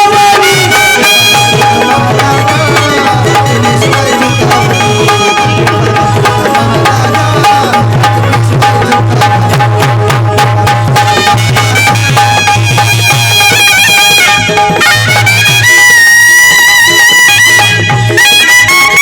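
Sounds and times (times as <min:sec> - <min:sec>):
hand drums playing fast beat: 0:00.0 - 0:19.0
held melody line: 0:00.0 - 0:19.0.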